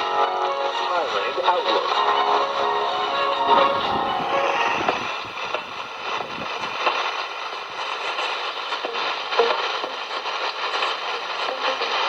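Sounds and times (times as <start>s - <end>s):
faint radio broadcast audio: 0.0s - 12.0s
radio static hiss and crackle: 0.0s - 12.0s.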